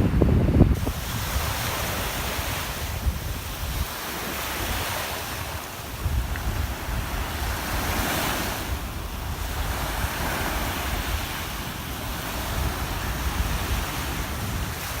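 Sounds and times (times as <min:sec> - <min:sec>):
waves breaking on a beach: 0:00.0 - 0:15.0
wind rumble on microphone: 0:00.0 - 0:15.0.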